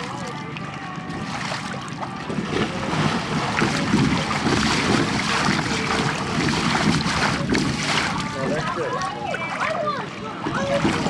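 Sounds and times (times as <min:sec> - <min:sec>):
water sloshing: 0:00.0 - 0:11.0.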